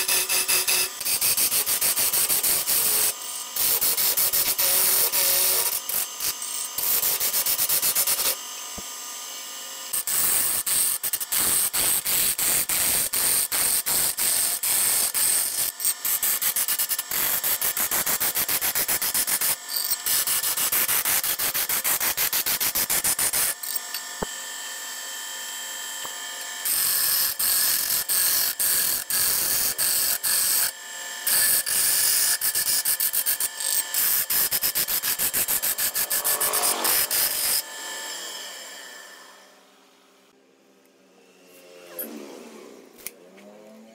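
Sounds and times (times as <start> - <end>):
lathe running: 0.0 - 18.5, 23.2 - 39.9
lathe tool scraping wood: 0.0 - 25.1, 26.0 - 39.5.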